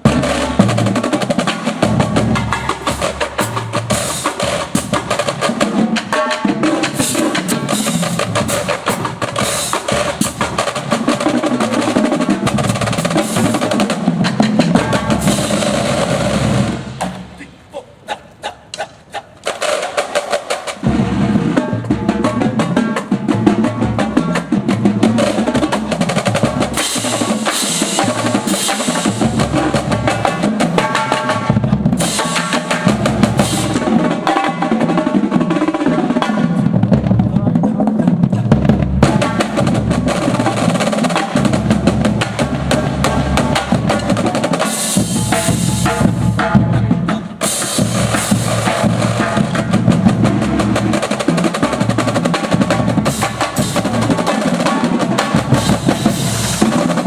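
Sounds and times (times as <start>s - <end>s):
drum corps music: 0.0s - 57.0s
snare drum rolls: 0.0s - 57.0s.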